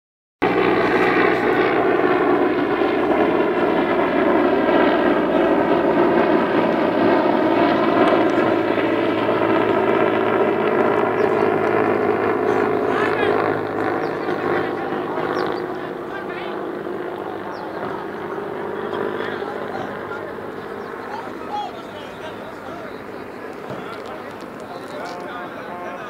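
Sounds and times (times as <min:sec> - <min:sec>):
aircraft engine drone overhead: 0:00.4 - 0:26.0.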